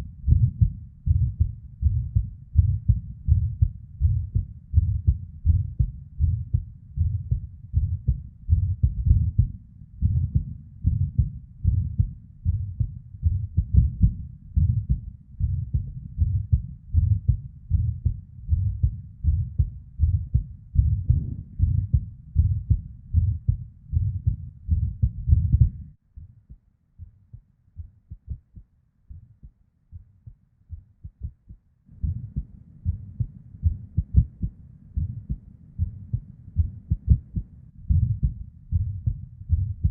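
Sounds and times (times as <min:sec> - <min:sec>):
heartbeat: 0:00.0 - 0:39.9.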